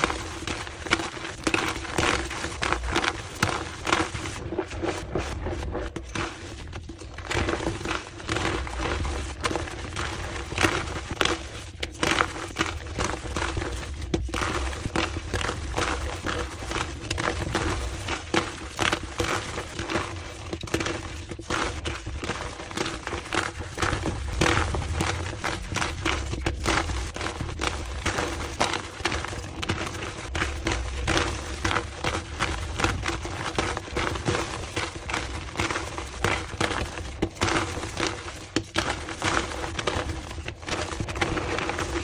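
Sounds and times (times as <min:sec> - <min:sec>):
chalk crunching and crackling: 0:00.0 - 0:42.0.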